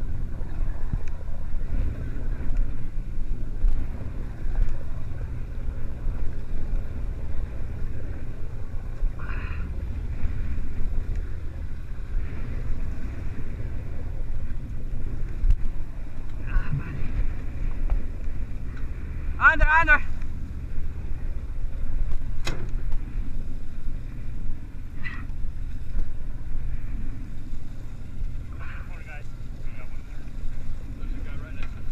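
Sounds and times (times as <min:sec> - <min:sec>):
boat engine low rumble: 0:00.0 - 0:31.9
wake washing behind boat: 0:00.0 - 0:31.9.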